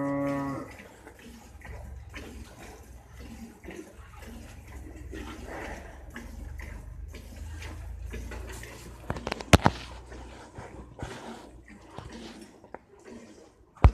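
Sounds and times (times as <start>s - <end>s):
milk squirting into steel pail: 0.0s - 13.9s.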